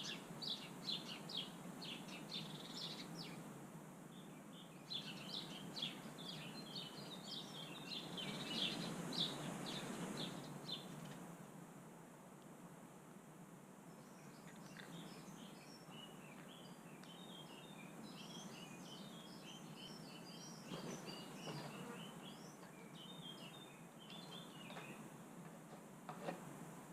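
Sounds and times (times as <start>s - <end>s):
songbirds chirping: 0.0s - 26.9s.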